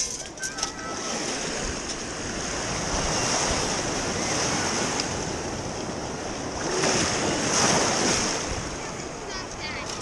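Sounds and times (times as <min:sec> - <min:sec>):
surf washing around legs: 0:00.0 - 0:10.0
wave surging: 0:00.8 - 0:09.4.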